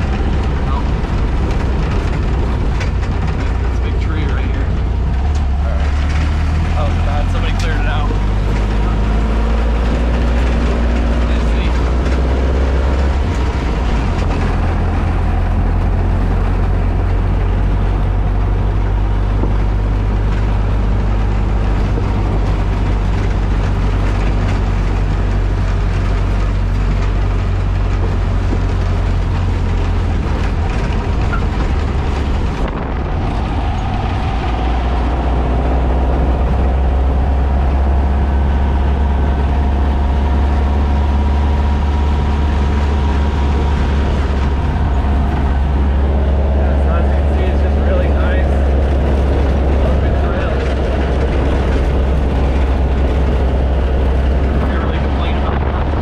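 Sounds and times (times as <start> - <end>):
low engine drone: 0.0 - 56.0
road noise: 0.0 - 56.0.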